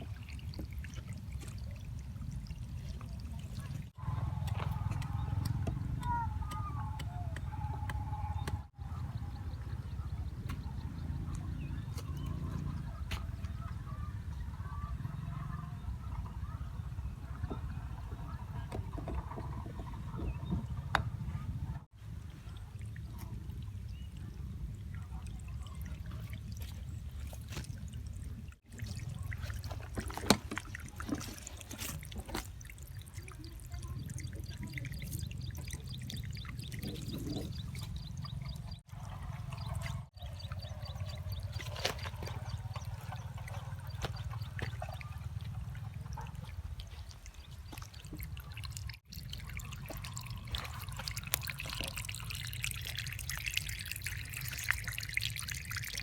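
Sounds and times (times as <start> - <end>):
water trickling and splashing: 0.0 - 14.6, 15.8 - 56.0.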